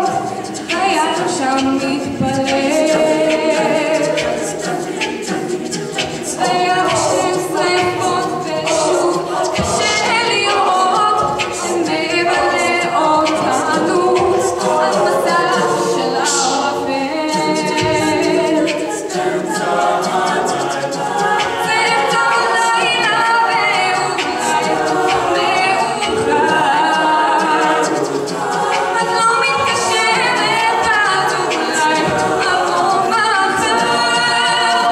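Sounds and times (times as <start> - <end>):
a cappella group singing: 0.0 - 34.9
woman singing lead: 0.0 - 34.9.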